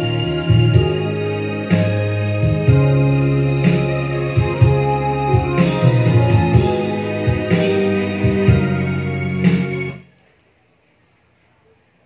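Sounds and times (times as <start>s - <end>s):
instrumental karaoke backing music: 0.0s - 10.1s.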